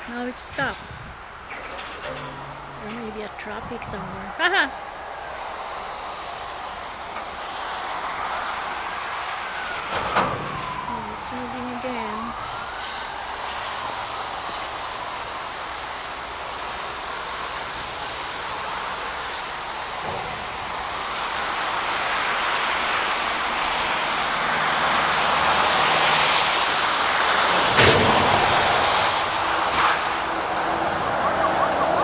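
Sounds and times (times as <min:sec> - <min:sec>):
freight train wheels on rail: 0:00.0 - 0:32.0.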